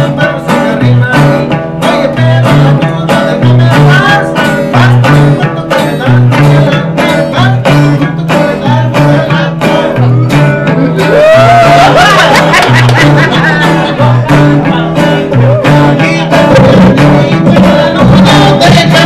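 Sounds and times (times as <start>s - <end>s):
guitars strumming upbeat tune: 0.0s - 19.0s.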